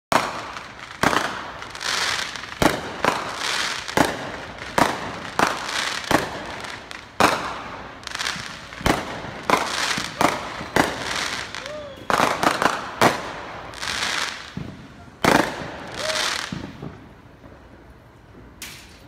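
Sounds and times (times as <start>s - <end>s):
fireworks bangs: 0.1s - 18.8s
fireworks crackling: 0.1s - 19.0s.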